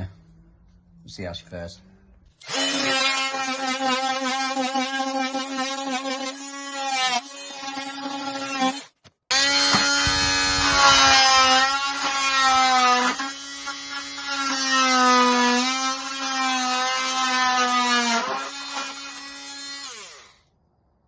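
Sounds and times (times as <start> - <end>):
multi-tool cutting plasterboard: 2.4 - 20.4.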